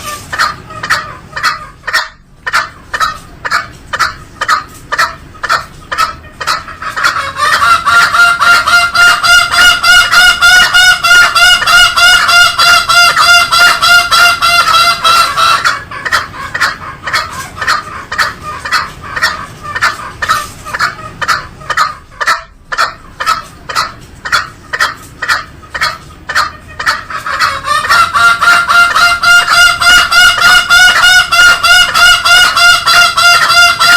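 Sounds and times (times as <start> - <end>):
junglefowl calling: 0.0 - 33.9.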